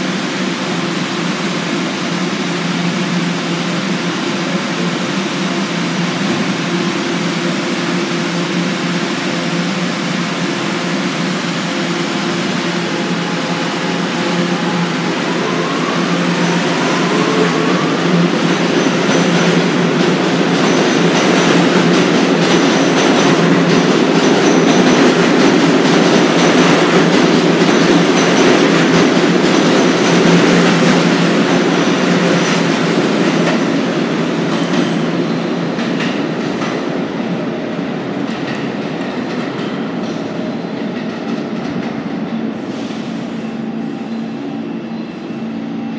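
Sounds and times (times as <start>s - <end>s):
subway train pulling out: 0.0s - 45.9s.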